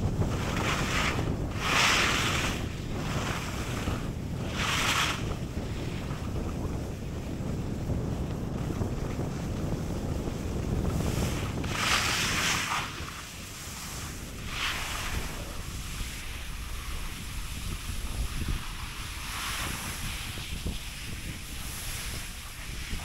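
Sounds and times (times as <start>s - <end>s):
skis scraping over snow: 0.0s - 23.0s
wind buffeting microphone: 0.0s - 23.0s.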